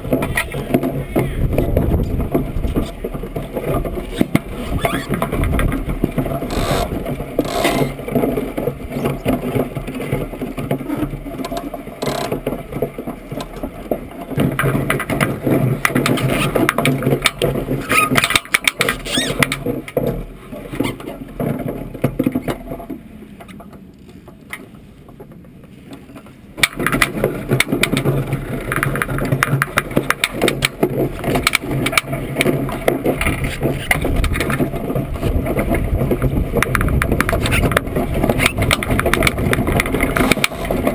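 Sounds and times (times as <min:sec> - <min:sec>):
boat frame rattling clicks: 0:00.0 - 0:40.9
runners rumbling on ice: 0:00.0 - 0:40.9.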